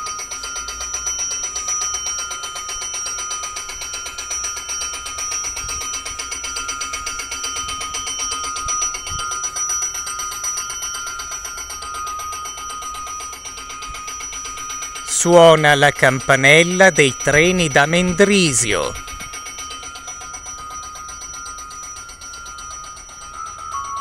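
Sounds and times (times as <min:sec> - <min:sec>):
railway warning bell ringing: 0:00.0 - 0:24.0.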